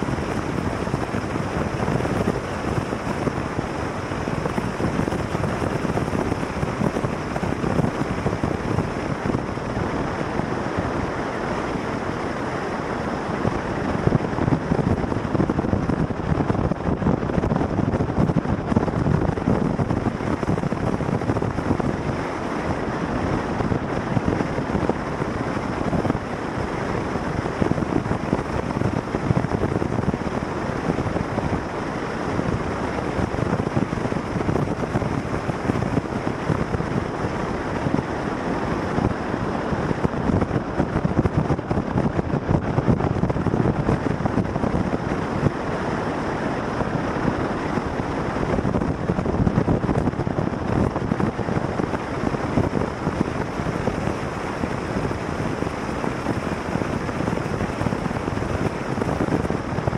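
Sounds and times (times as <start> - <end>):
road and engine noise: 0.0 - 59.9
wind rushing over microphone: 0.0 - 59.9.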